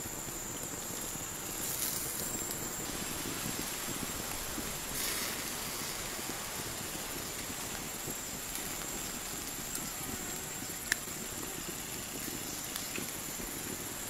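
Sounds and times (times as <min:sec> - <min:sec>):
fire hissing and crackling: 0:00.0 - 0:14.0.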